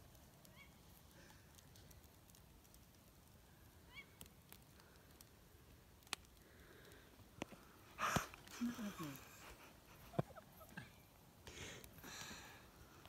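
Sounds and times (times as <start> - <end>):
wood fire popping: 0.0 - 13.0.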